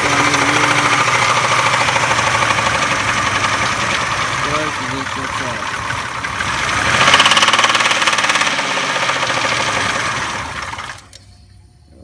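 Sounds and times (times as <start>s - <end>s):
car engine knocking: 0.0s - 11.1s.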